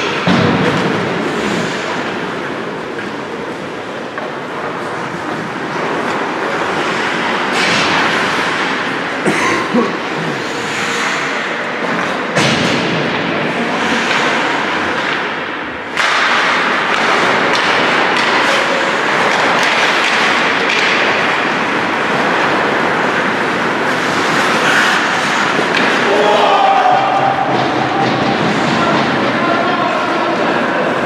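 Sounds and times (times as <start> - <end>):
hockey sticks and puck knocks: 0.0 - 3.3, 4.1 - 8.9, 11.1 - 29.4
skates scraping on ice: 0.0 - 9.2, 9.8 - 31.0.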